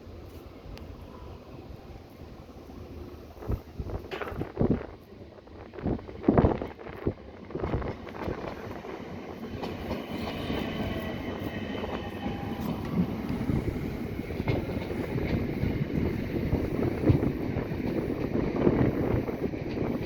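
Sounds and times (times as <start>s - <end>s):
train wheels rumbling on rails: 2.1s - 20.0s.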